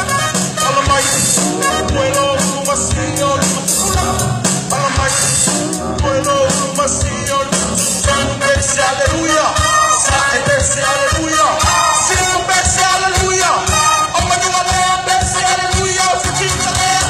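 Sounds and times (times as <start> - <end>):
band music: 0.0 - 17.0
steady drum beat: 0.0 - 17.0
people singing: 0.7 - 17.0.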